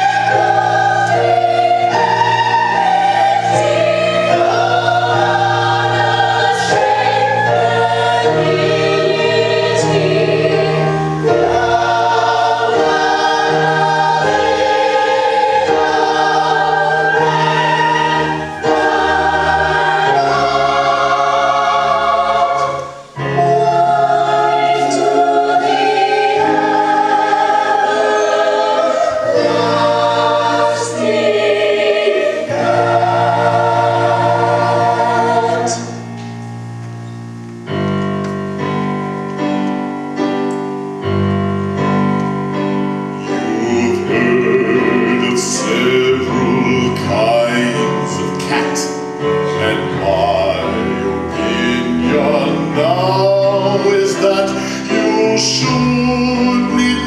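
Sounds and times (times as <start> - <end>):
chorus singing sustained chords: 0.0 - 57.0
rhythmic accompaniment of repeated notes: 0.0 - 57.0.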